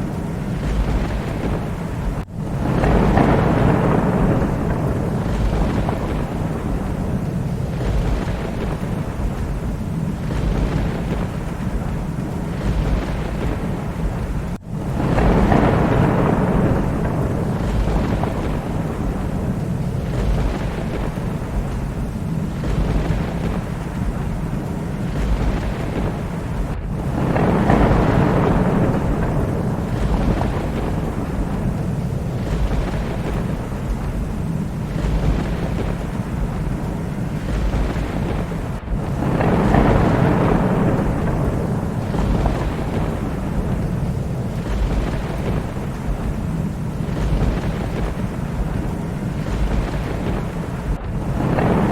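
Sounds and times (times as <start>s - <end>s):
low rolling thunder: 0.0s - 51.9s
steady rain: 0.0s - 51.9s.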